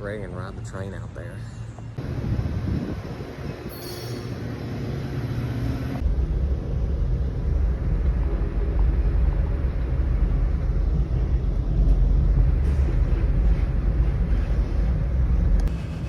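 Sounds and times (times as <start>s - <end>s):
diesel train rumble: 0.0s - 16.0s.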